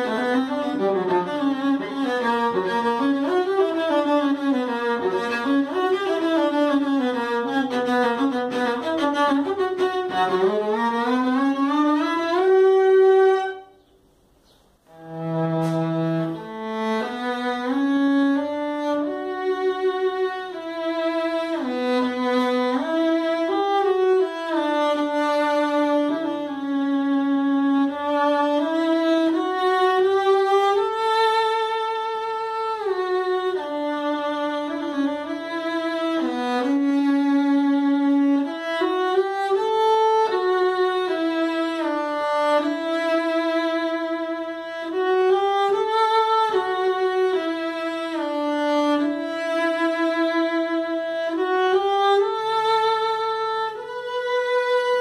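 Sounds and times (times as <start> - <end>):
bowed cello: 0.0 - 55.0.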